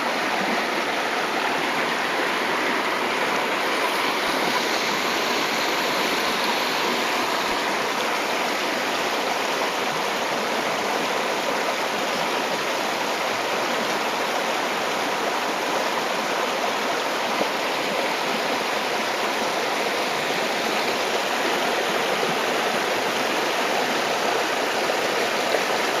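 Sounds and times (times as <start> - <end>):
creek water flowing over rocks: 0.0 - 26.0.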